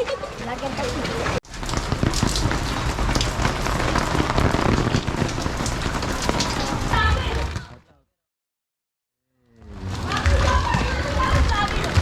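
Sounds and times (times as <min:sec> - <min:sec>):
heavy rain on hard surfaces: 0:00.0 - 0:07.7, 0:09.7 - 0:12.0.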